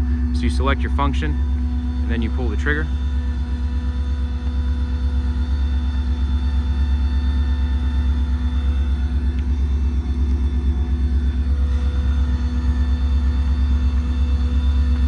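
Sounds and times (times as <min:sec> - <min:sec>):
hydraulic pump whine: 0:00.0 - 0:15.0
truck engine rumbling: 0:00.0 - 0:15.0.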